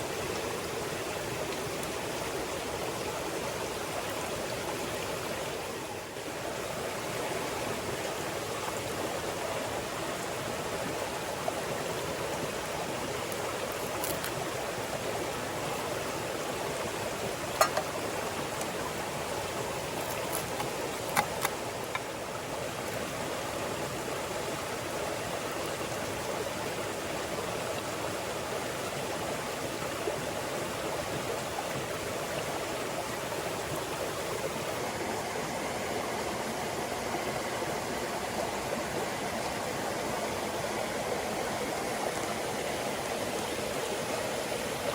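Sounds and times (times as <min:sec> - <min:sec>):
stream babbling over rocks: 0:00.0 - 0:44.9.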